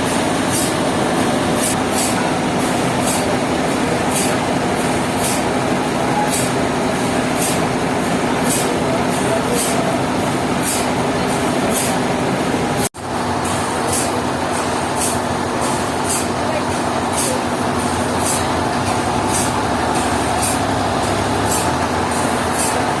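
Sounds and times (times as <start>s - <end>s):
rhythmic hiss: 0.0s - 23.0s
sawmill machinery running: 0.0s - 23.0s.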